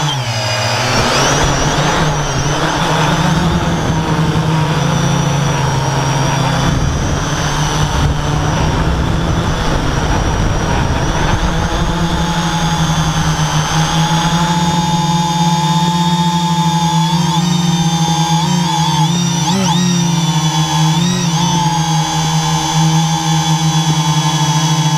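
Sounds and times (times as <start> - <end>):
drone motors whining: 0.0 - 24.9.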